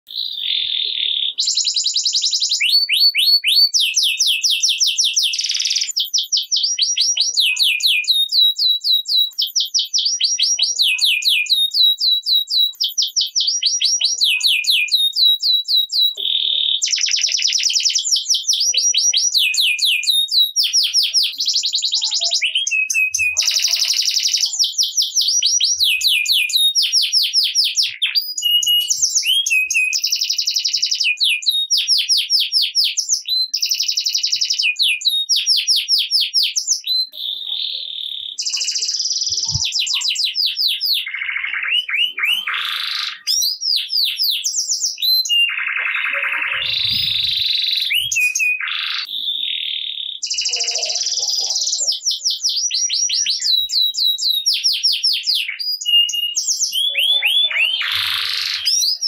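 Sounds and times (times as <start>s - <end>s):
canary singing trills: 0.1s - 59.0s.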